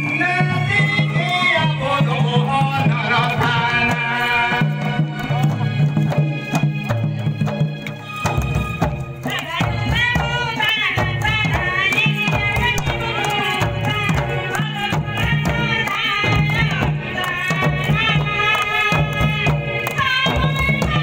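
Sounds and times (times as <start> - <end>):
person singing folk melody: 0.0 - 6.9, 9.1 - 21.0
barrel drums beaten by hand: 0.0 - 21.0.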